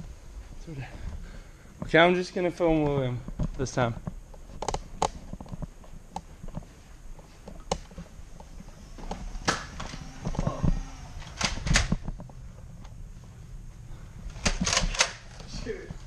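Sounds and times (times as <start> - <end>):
footsteps: 0.0 - 16.0.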